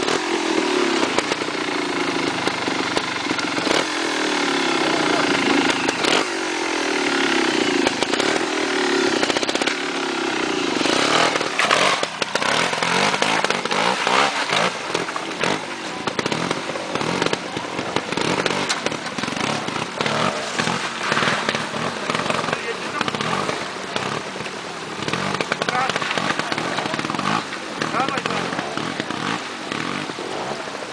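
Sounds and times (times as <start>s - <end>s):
sharp rapid clatters: 0.0s - 30.5s
motorcycle engine revving: 0.0s - 30.9s.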